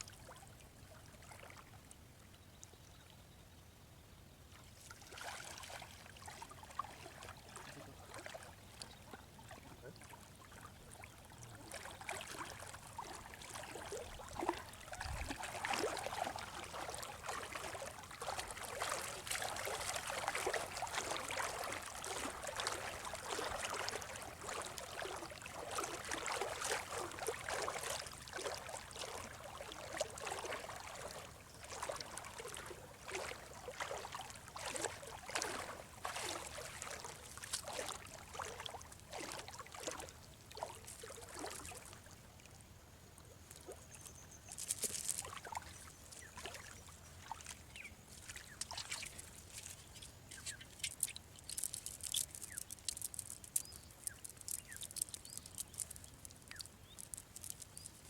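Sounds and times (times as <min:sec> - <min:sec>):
water splashing and trickling: 0:00.0 - 0:02.7, 0:04.5 - 0:58.0.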